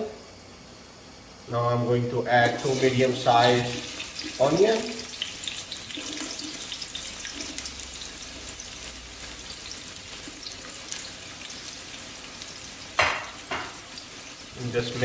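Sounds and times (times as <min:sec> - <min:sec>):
onions sizzling in oil: 0:02.2 - 0:15.0
small crackles: 0:02.4 - 0:15.0.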